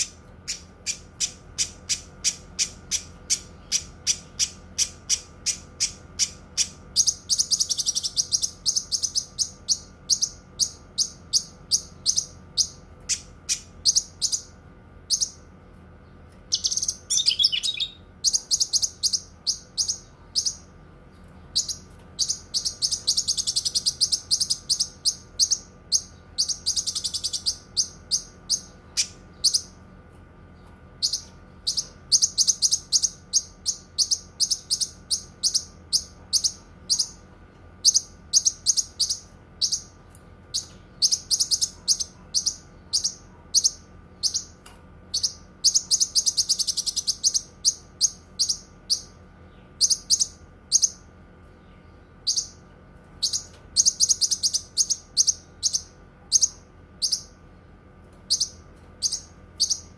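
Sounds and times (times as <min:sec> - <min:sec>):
bird chirping and trilling: 0:00.0 - 0:29.8, 0:30.6 - 0:57.4, 0:58.3 - 0:59.9
faint steady hum: 0:00.0 - 0:59.9.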